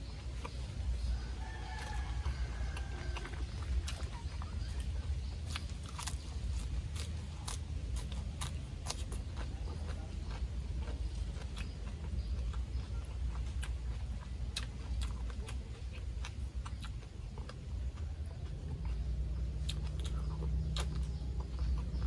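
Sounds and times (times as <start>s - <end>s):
person chewing wetly: 0.0s - 22.0s.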